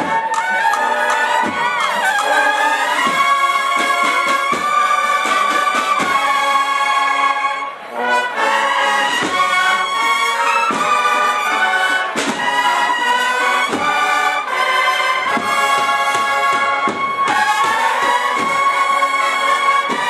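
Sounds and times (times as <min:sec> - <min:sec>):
drum strokes: 0:00.0 - 0:07.2, 0:08.7 - 0:20.0
cornets playing held chords: 0:00.0 - 0:20.0.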